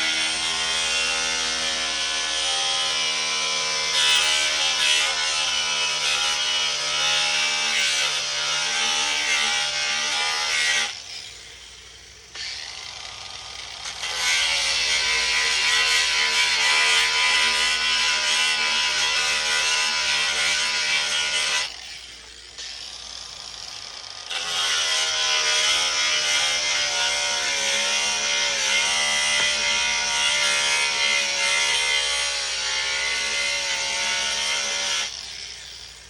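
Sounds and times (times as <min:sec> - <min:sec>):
angle grinder cutting plastic: 0:00.0 - 0:36.0.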